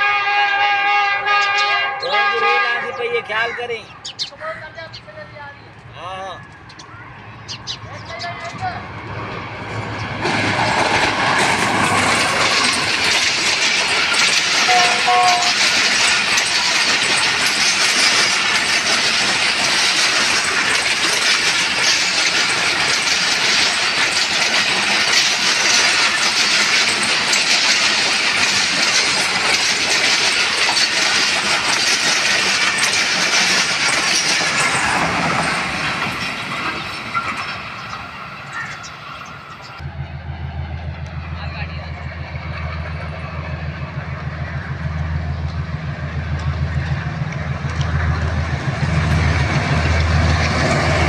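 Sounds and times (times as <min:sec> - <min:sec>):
passenger train passing at speed: 0:00.0 - 0:51.0.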